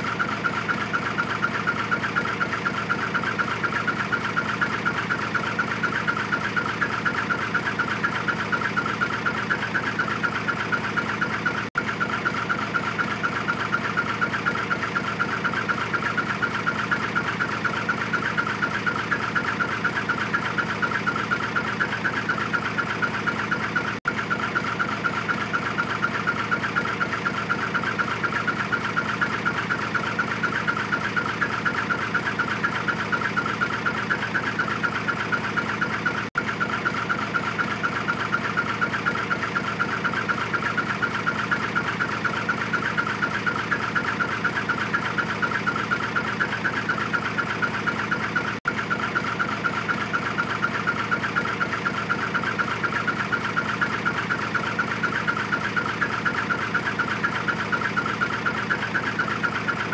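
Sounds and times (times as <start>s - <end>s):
diesel truck engine idling: 0.0s - 59.9s
rapid chirping from muffler: 0.0s - 59.9s.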